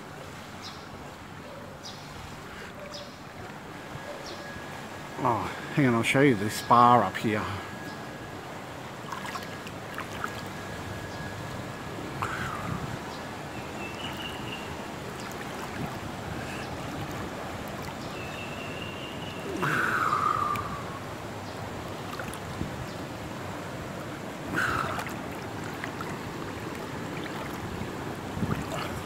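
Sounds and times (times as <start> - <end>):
wind: 0.0 - 29.0
water rushing: 4.8 - 29.0.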